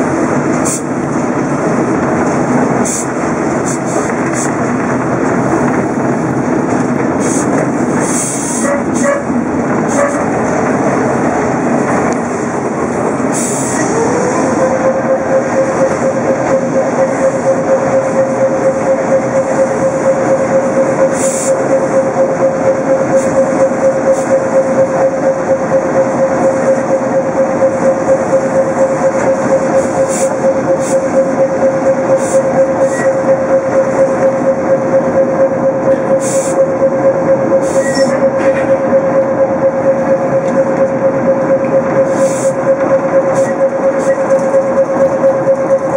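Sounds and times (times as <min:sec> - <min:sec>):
high steady whine: 0:00.0 - 0:45.9
tram rumble and rattle: 0:00.0 - 0:45.9.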